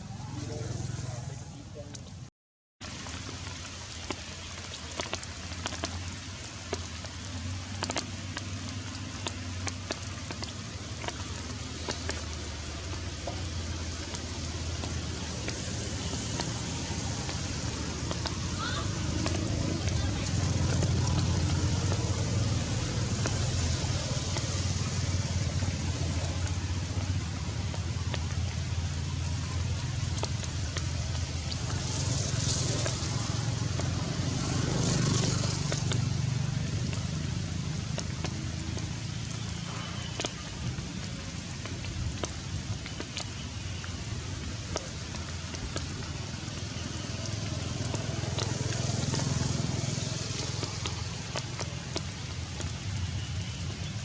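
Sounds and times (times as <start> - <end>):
heavy rain hissing: 2.8 - 54.0
raindrop taps: 2.8 - 54.0.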